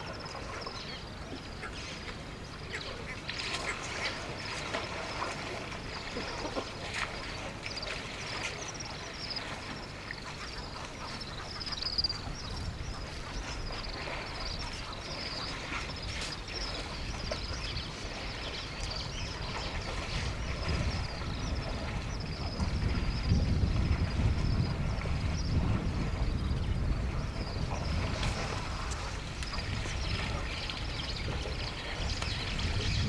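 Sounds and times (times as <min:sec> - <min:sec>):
birds chirping: 0:00.0 - 0:23.2, 0:26.2 - 0:33.0
wind rumble on microphone: 0:00.0 - 0:33.0.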